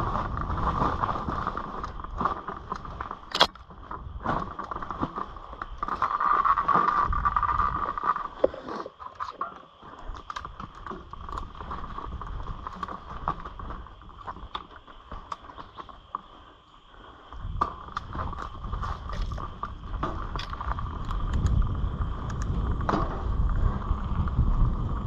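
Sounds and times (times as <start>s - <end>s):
wind rumble on microphone: 0.0s - 8.6s, 9.9s - 16.3s, 17.2s - 25.0s
bike clicks and rattles: 0.0s - 16.4s, 17.3s - 25.0s
bike tyres rolling on dirt: 0.0s - 25.0s.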